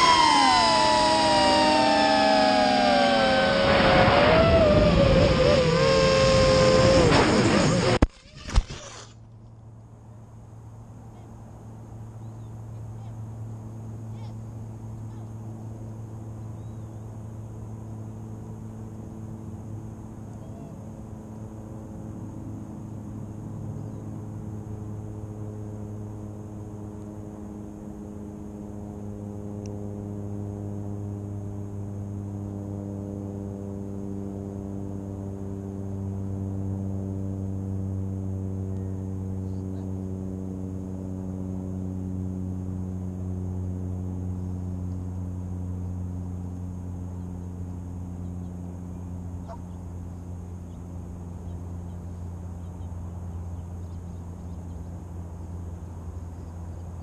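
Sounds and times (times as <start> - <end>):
low engine hum: 0.0 - 57.0.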